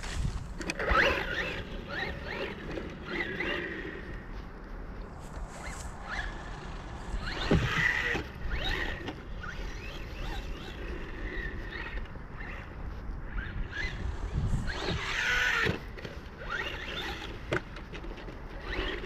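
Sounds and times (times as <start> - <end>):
electric motor whining: 0.0 - 4.4, 5.3 - 19.0.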